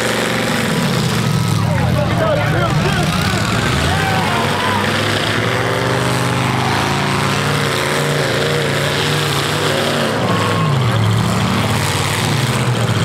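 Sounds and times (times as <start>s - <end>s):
car engines running: 0.0s - 13.0s
engine revving: 0.0s - 13.0s.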